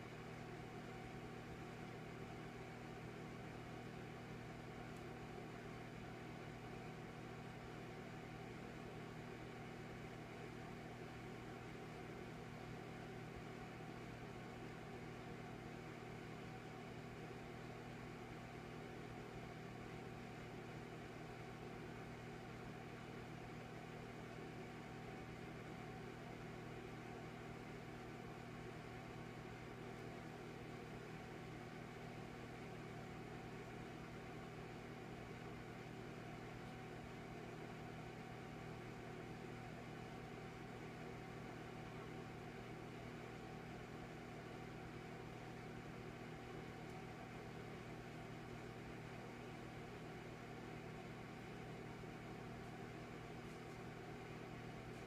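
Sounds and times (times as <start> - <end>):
electric fireplace hum: 0.0 - 55.0.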